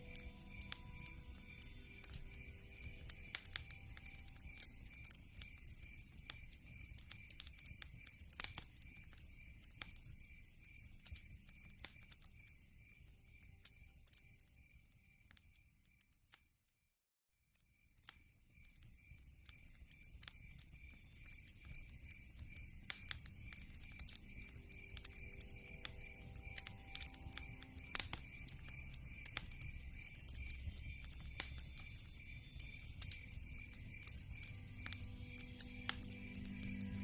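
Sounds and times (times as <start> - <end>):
campfire crackling and popping: 0.0 - 16.4, 17.7 - 37.0.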